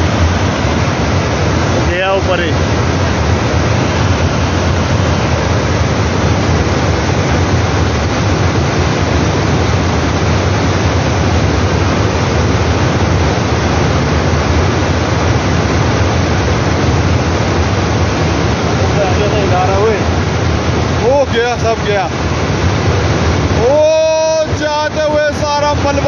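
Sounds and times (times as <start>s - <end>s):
debris flood roaring: 0.0s - 26.0s.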